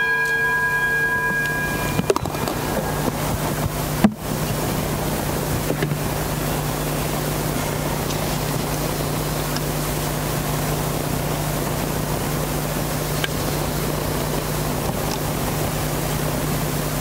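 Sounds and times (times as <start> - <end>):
low hum: 0.0 - 17.0
rushing noise: 0.0 - 17.0.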